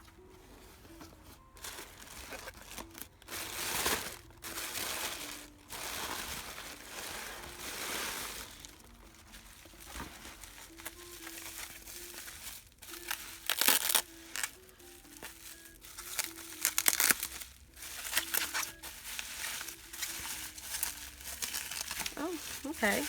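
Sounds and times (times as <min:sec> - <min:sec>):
packaging crinkling and rustling: 0:00.0 - 0:23.0.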